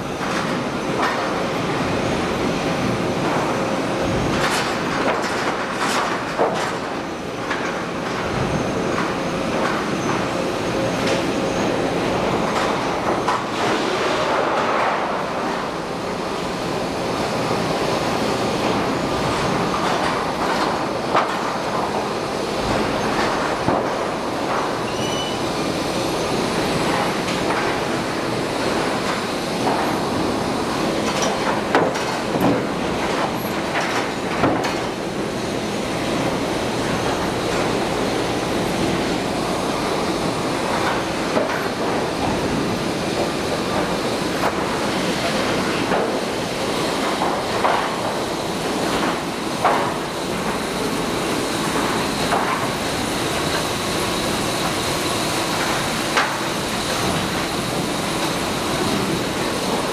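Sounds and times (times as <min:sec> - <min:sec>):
lumber equipment clatter: 0:02.7 - 0:15.8, 0:16.4 - 0:59.9.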